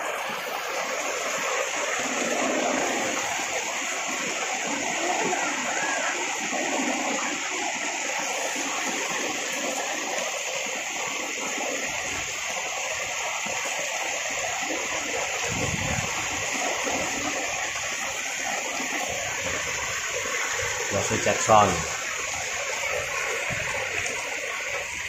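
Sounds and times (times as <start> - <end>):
heavy rain on ground and roof: 0.0 - 25.0.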